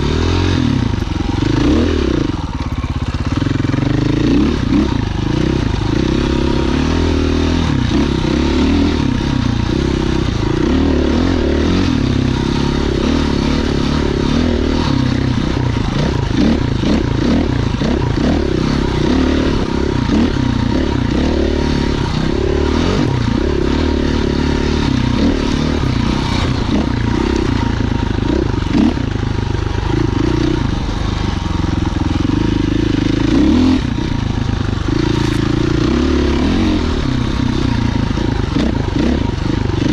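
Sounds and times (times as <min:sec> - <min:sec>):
motorcycle clatter: 0:00.0 - 0:39.9
motorcycle engine revving: 0:00.0 - 0:39.9.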